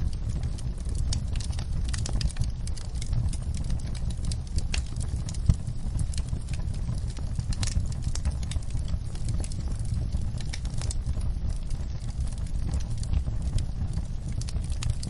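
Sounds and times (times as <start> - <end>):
campfire crackling: 0.0 - 15.0
fire low rumble: 0.0 - 15.0.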